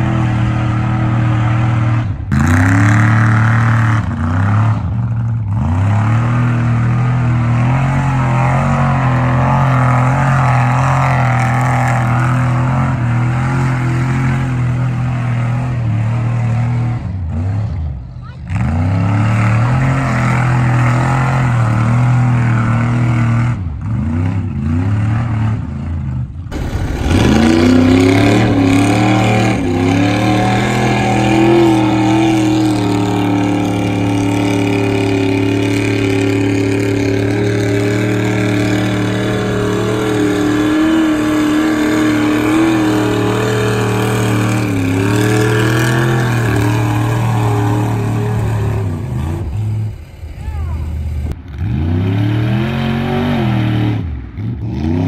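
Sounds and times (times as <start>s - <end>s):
truck engine revving hard: 0.0s - 55.0s.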